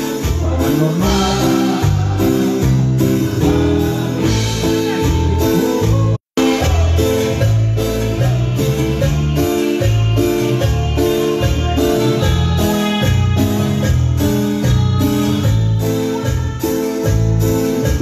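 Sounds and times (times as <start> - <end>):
band playing keyboard-led music: 0.0 - 18.0
bass line: 0.0 - 18.0.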